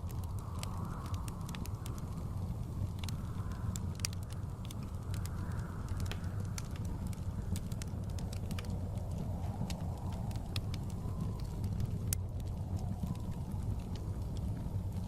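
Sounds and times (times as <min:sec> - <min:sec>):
blizzard wind gusting: 0:00.0 - 0:15.0
wood fire crackling and popping: 0:00.0 - 0:15.0.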